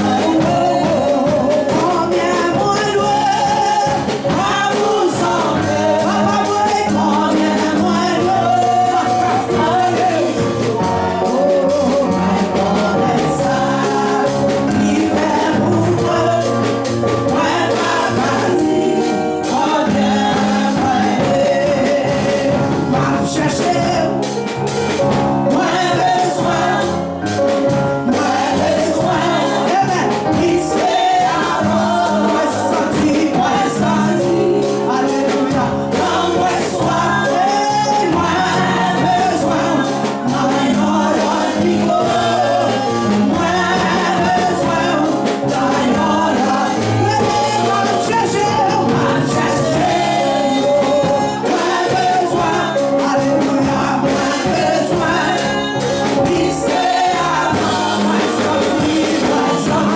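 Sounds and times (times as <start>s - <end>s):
group singing gospel: 0.0s - 59.9s
percussion beat: 0.0s - 59.9s.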